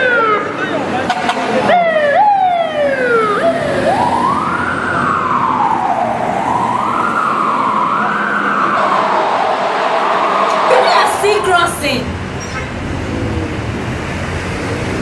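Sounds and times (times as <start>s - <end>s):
fire truck siren wailing: 0.0s - 12.4s.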